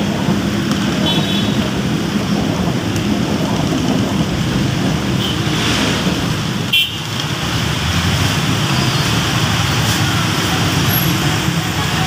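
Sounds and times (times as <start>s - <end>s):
busy road traffic: 0.0s - 12.0s
heavy rain: 0.0s - 12.0s.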